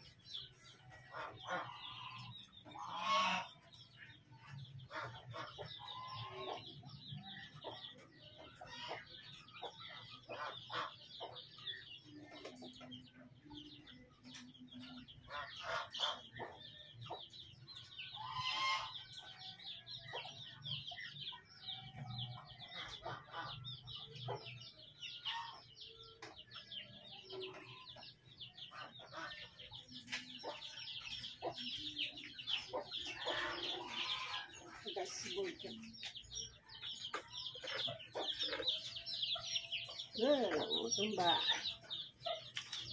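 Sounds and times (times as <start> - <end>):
chicks peeping: 0.0 - 42.9
hens clucking: 0.0 - 42.9.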